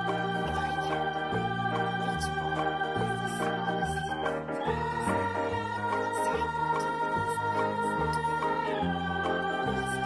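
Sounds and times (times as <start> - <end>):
soft keyboard tune: 0.0 - 10.0.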